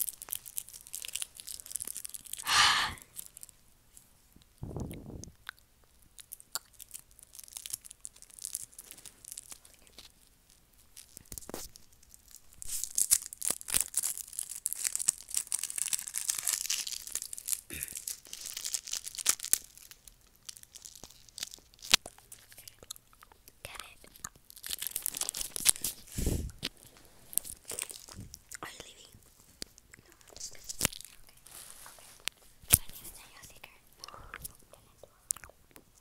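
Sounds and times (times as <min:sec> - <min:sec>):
plastic wrapper crinkling: 0:00.0 - 0:03.6, 0:06.2 - 0:23.0, 0:23.7 - 0:33.8.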